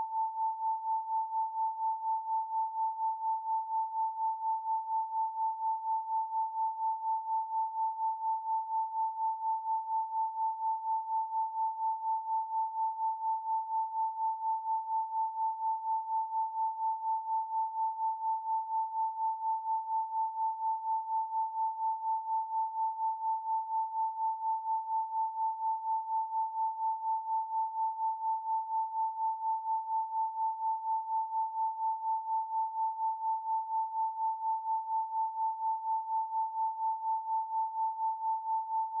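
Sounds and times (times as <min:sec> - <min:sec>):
pulsing sine tone: 0:00.0 - 0:39.0.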